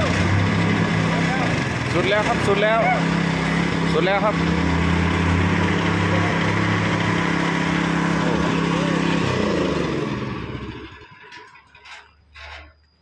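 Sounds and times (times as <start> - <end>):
engine driving hydraulic lift: 0.0 - 13.0.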